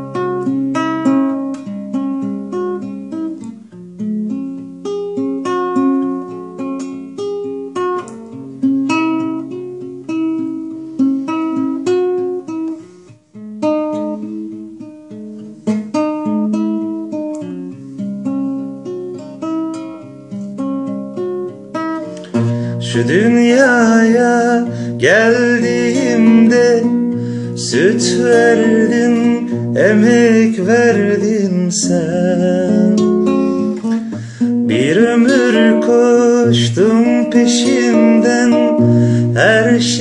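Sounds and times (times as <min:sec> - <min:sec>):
solo classical guitar: 0:00.0 - 0:40.0.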